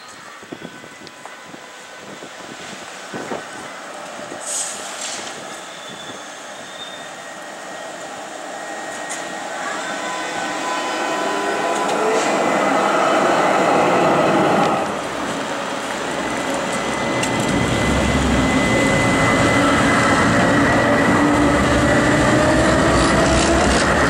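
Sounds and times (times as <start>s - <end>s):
steel wheels rumbling on rail: 0.2s - 24.0s.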